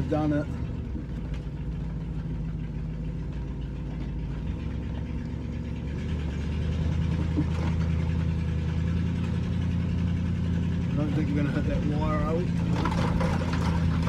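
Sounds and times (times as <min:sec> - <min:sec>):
van engine running: 0:00.0 - 0:14.0.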